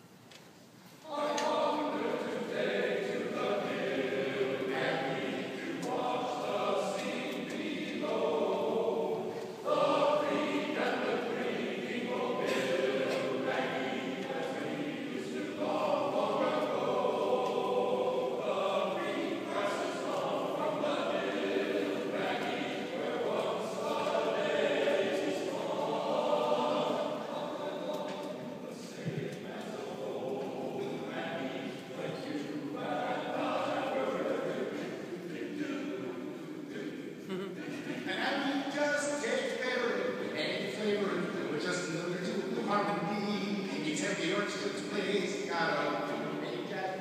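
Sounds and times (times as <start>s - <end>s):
men's choir singing a cappella: 1.0s - 47.0s.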